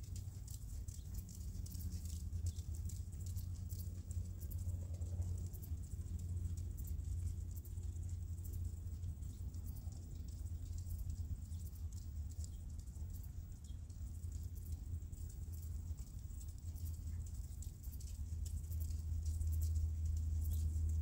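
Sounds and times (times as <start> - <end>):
faint clicks: 0.0 - 21.0
horse trotting on sand: 0.0 - 21.0
low wind rumble on microphone: 0.0 - 21.0.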